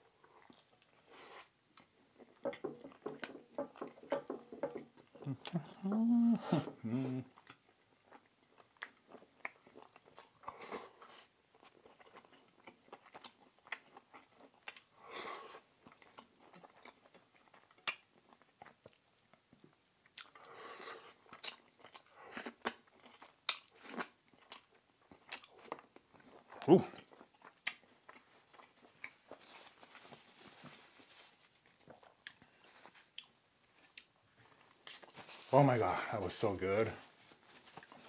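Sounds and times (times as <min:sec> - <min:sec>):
chewing food: 0:00.0 - 0:35.3.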